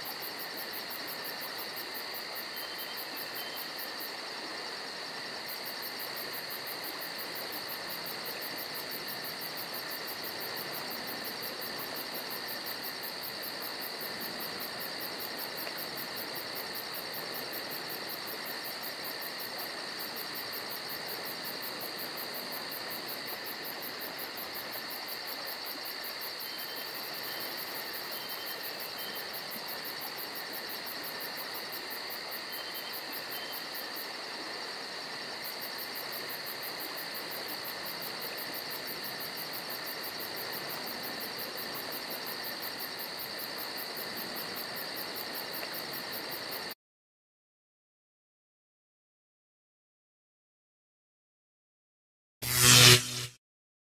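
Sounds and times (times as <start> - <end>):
chirring insect chorus: 0.1 - 46.6.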